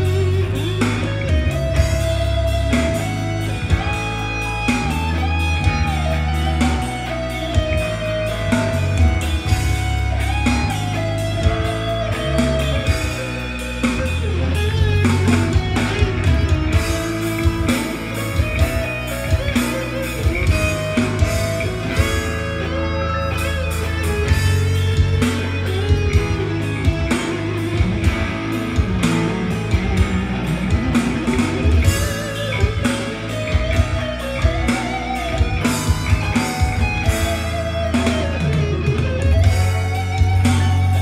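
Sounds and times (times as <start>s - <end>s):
electric guitar solo: 0.0s - 41.0s
rock backing drums and bass: 0.0s - 41.0s.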